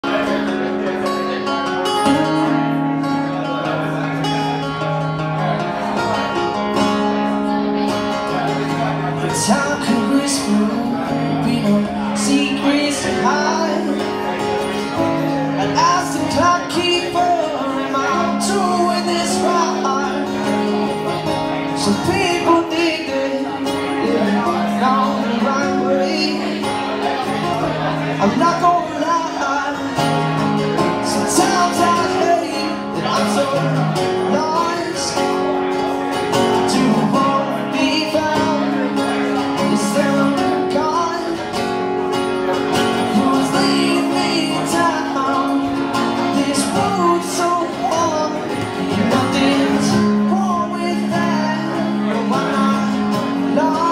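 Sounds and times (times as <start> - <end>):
acoustic guitar: 0.0 - 53.9
person singing: 5.6 - 53.9.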